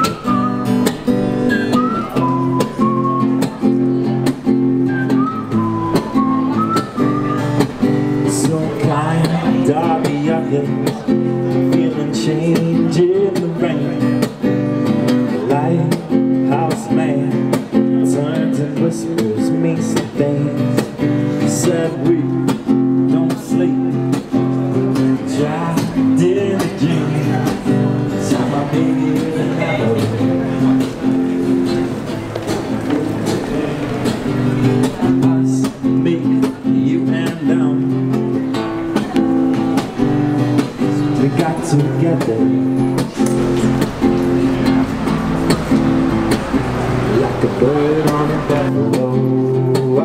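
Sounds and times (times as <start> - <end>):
strummed guitar over a beat: 0.0 - 50.0.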